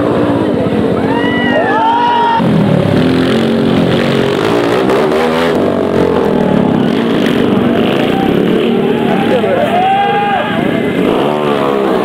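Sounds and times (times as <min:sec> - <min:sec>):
motorcycle engine revving: 0:00.0 - 0:01.0, 0:02.3 - 0:12.0.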